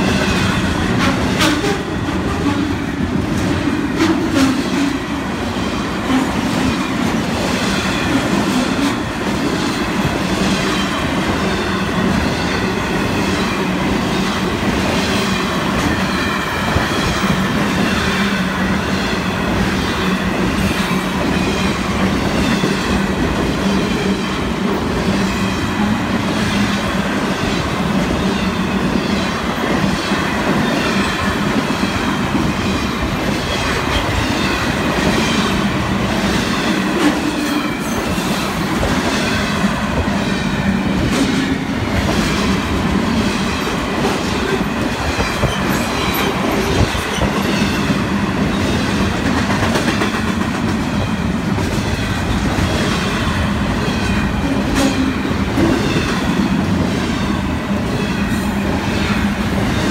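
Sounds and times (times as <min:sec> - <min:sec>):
freight train wheels clattering on rail: 0:00.0 - 0:59.9.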